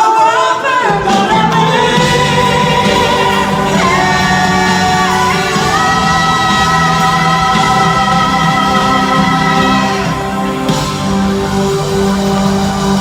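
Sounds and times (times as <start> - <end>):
live pop ballad band: 0.0 - 13.0.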